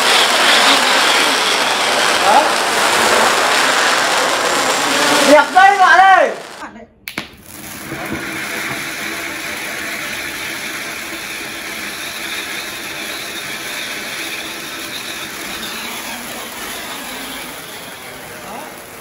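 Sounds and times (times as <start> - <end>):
drone propellers whirring: 0.0 - 5.8, 7.8 - 19.0
firework hissing: 0.0 - 19.0.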